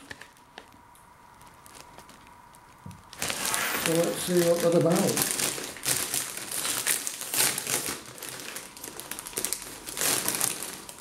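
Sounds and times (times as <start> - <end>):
plastic crisp packet crinkling: 0.0 - 11.0.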